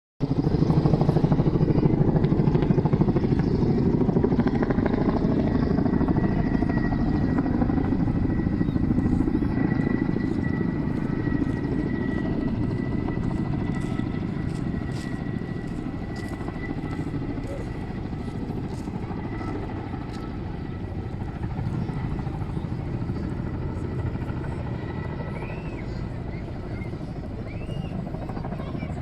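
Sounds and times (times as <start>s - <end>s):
helicopter rotor chopping: 0.2s - 29.0s.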